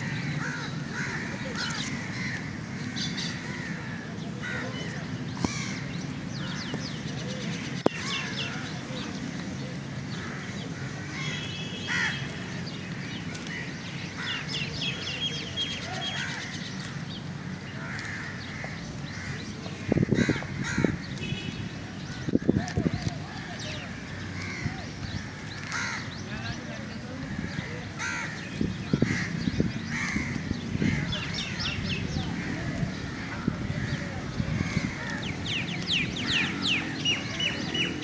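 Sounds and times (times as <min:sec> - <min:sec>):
birds calling: 0:00.0 - 0:38.0.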